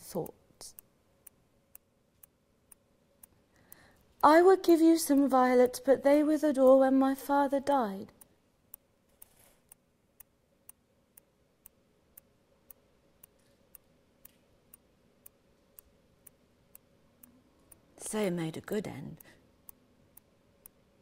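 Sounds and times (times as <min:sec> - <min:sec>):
faint steady ticking: 0:00.0 - 0:21.0
low steady hum: 0:00.0 - 0:21.0.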